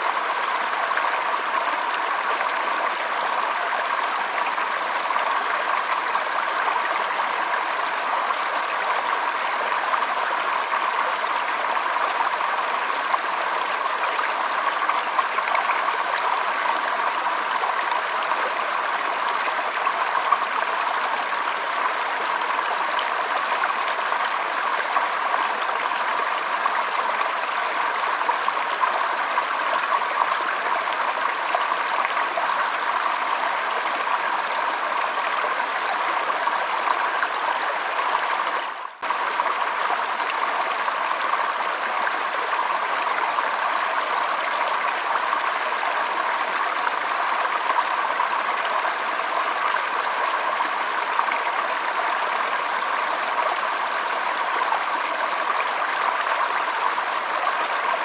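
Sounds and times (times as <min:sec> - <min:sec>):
stream flowing and trickling: 0:00.0 - 0:58.0.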